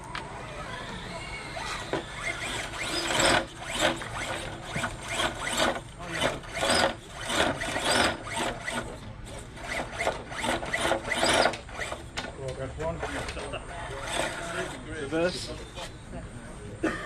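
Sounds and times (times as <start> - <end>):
small electric motor whining: 0.0 - 12.2, 13.0 - 15.9.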